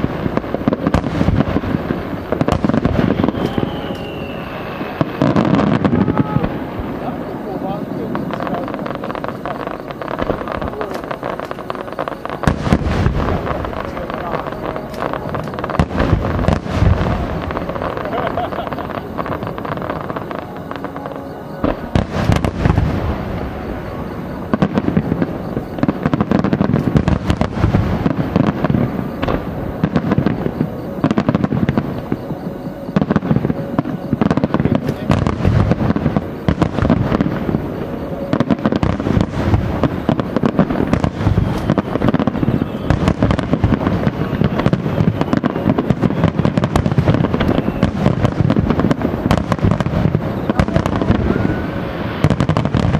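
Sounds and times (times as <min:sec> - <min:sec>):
fireworks bursting: 0:00.0 - 0:52.9.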